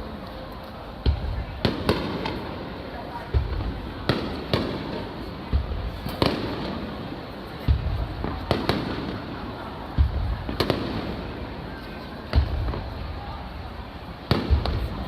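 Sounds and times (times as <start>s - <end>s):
fireworks bangs and booms: 1.0s - 15.0s.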